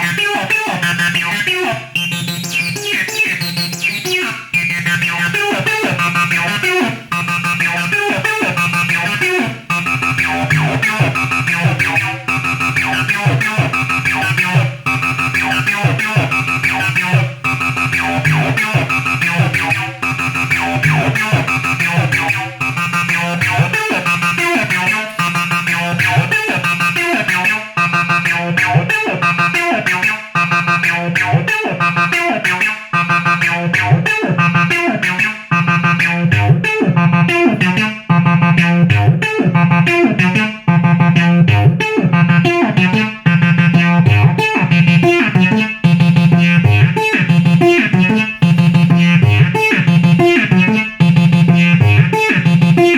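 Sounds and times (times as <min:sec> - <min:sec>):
analog bass synthesizer pattern: 0:00.0 - 0:52.9.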